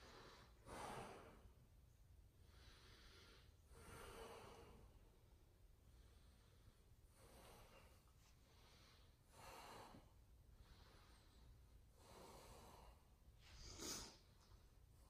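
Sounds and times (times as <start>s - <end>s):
man breathing softly: 0.0s - 1.6s, 2.3s - 15.0s.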